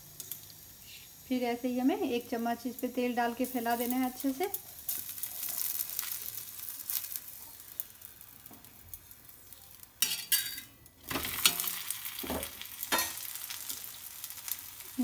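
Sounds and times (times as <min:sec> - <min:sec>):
flatbread sizzling in oil: 0:00.0 - 0:15.0.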